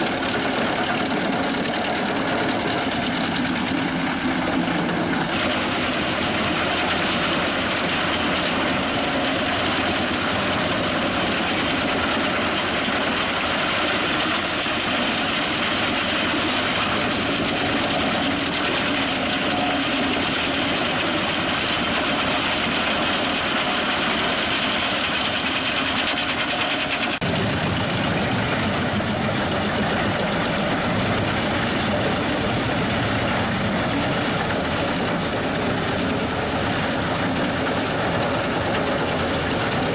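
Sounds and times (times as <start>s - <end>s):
tractor engine: 0.0s - 39.9s
wood chipper running: 0.0s - 39.9s.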